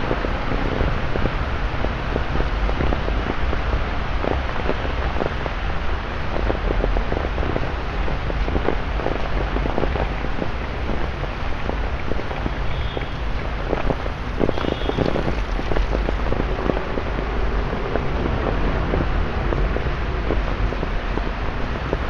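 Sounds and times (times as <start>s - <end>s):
rain on wet street: 0.0s - 22.0s
road traffic rumble: 0.0s - 22.0s.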